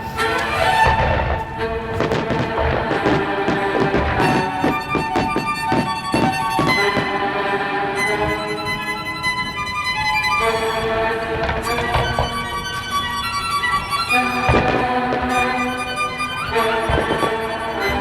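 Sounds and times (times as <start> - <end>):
violin playing sustained notes: 0.0 - 18.0.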